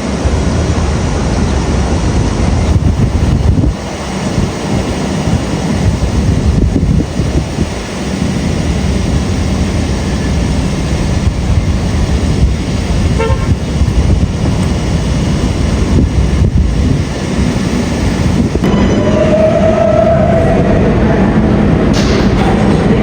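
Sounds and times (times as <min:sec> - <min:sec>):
subway train rumbling by: 0:00.0 - 0:23.0.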